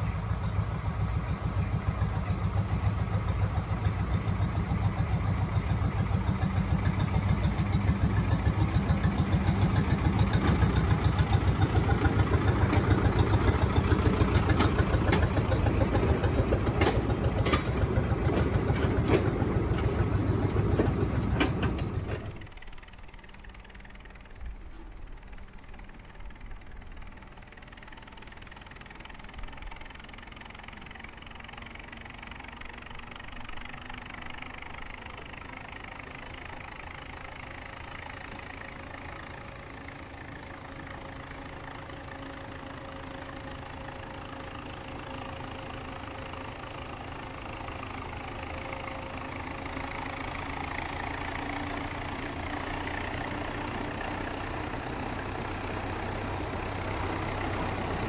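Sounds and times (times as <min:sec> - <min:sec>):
small locomotive engine running: 0:00.0 - 0:58.0.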